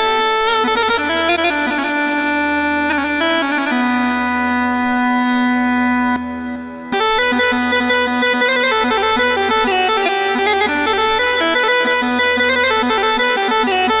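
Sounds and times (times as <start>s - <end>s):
quick melody: 0.0s - 14.0s
steady held drone: 0.0s - 14.0s.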